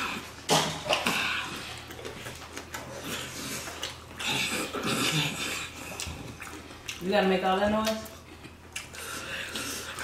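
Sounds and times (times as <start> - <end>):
smacking and chewing: 0.0 - 10.0.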